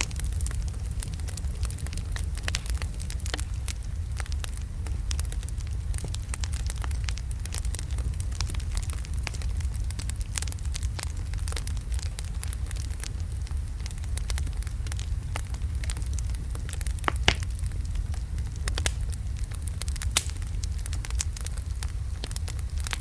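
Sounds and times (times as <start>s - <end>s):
fire crackling and popping: 0.0s - 23.0s
wood fire burning: 0.0s - 23.0s.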